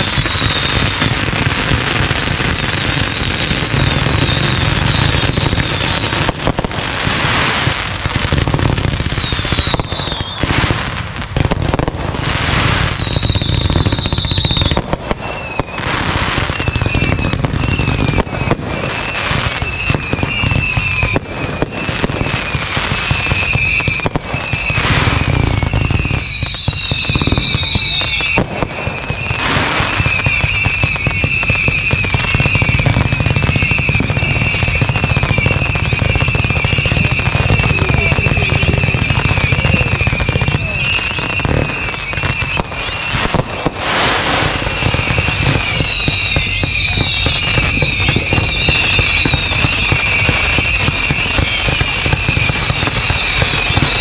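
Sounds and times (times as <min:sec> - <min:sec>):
falling firework whistles: 0:00.0 - 0:54.0
fireworks shots and bursts: 0:00.0 - 0:54.0.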